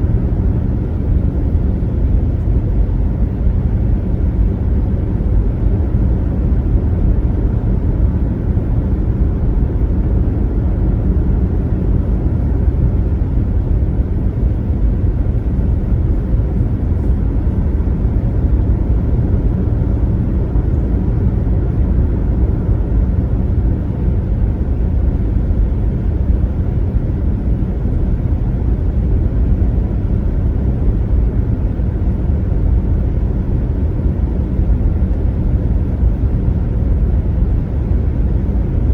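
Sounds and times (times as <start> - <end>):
car cruising at highway speed: 0.0 - 38.9.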